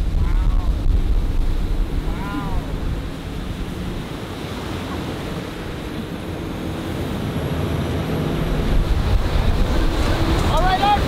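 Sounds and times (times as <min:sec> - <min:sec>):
boat engine drone: 0:00.0 - 0:11.0
rushing wake water: 0:00.0 - 0:11.0
wind: 0:00.0 - 0:11.0.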